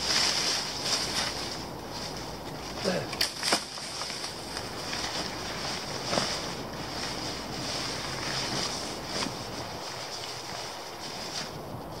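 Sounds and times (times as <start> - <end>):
tarp rustling and clicking: 0.0 - 12.0
wind rushing through trees: 0.0 - 12.0.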